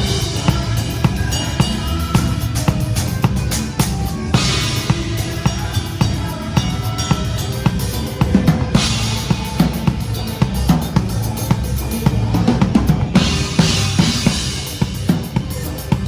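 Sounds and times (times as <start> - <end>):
drum kit groove: 0.0 - 16.0.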